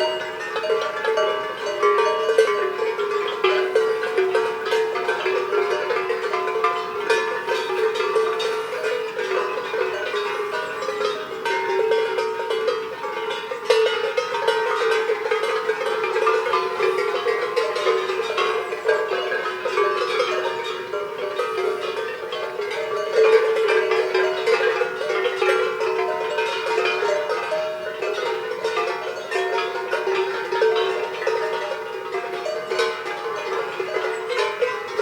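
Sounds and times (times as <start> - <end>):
cowbells clanking: 0.0 - 35.0.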